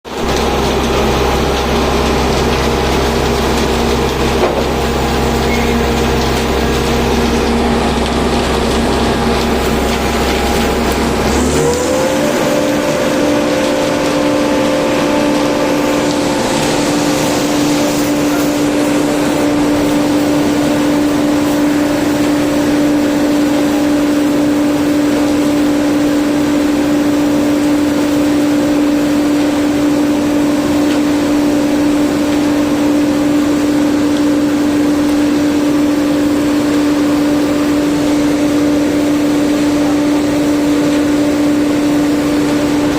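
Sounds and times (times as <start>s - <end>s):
construction machinery engine running: 0.1s - 42.9s.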